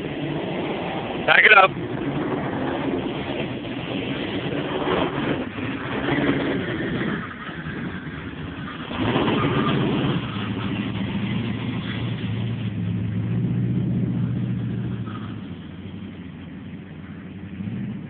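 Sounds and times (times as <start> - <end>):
suv engine revving: 0.0 - 18.0.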